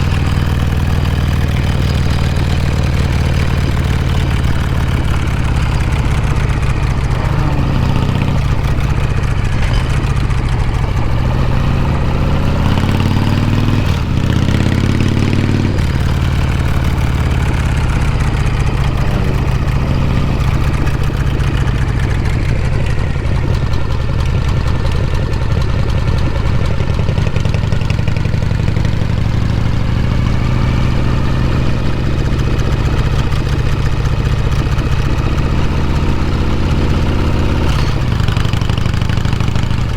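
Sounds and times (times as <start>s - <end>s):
motorcycle engine exhaust: 0.0s - 39.9s.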